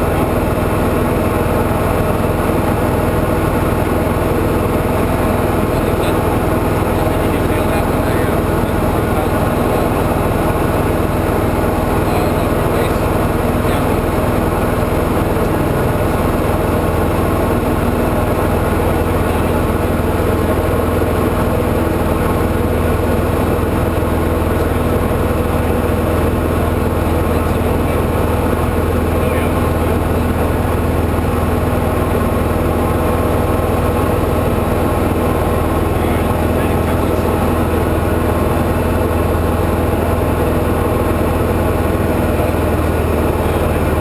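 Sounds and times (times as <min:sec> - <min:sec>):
light aircraft engine and propeller: 0:00.0 - 0:44.0.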